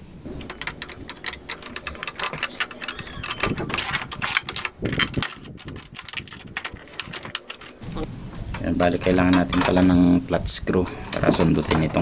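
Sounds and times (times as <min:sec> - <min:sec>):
plastic parts clicking and knocking: 0:00.3 - 0:10.2, 0:11.0 - 0:12.0.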